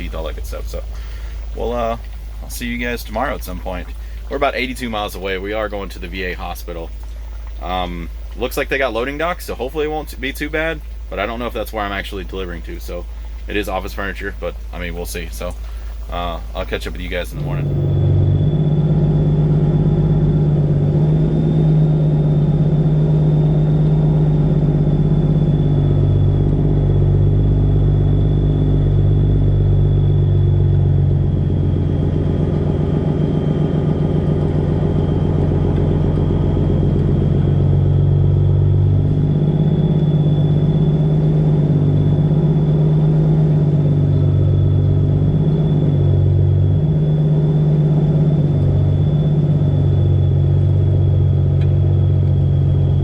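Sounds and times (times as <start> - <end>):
thin high whine: 0.0 - 53.0
truck diesel engine running: 0.0 - 53.0.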